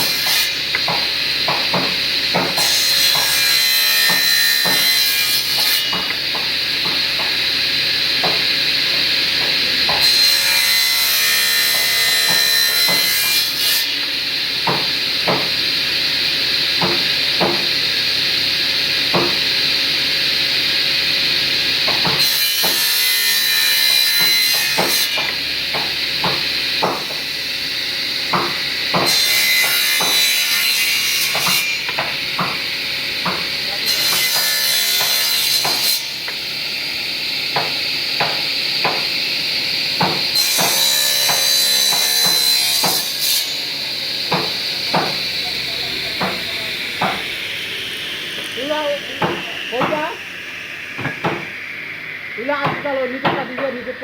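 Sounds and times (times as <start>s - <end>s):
power saw cutting wood: 0.0s - 54.0s.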